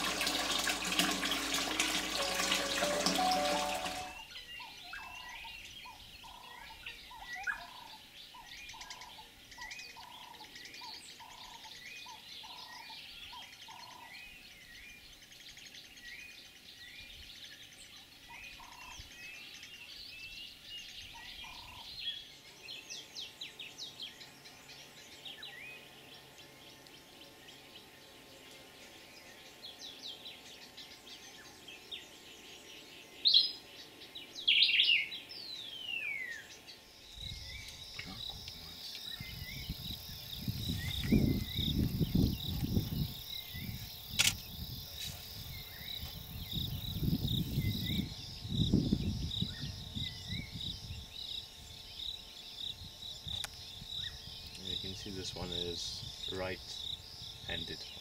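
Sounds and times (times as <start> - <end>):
birds twittering: 0.0 - 58.0.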